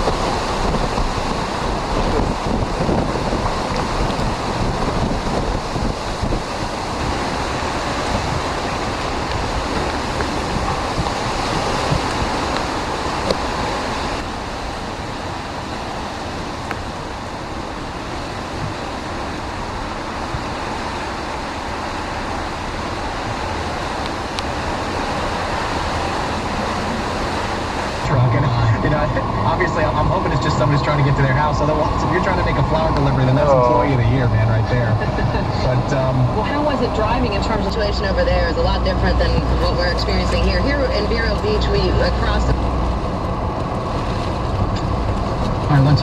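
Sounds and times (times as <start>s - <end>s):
strong wind blowing: 0.0s - 46.0s
wind buffeting microphone: 0.0s - 46.0s.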